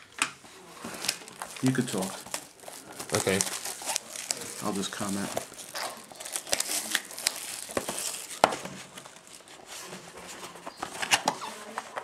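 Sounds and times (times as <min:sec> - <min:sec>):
plastic wrap crinkling: 0:00.3 - 0:12.0.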